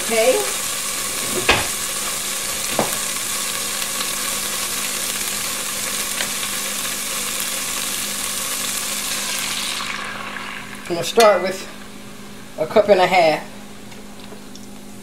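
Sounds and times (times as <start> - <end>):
fat sizzling in a pot: 0.0 - 12.6.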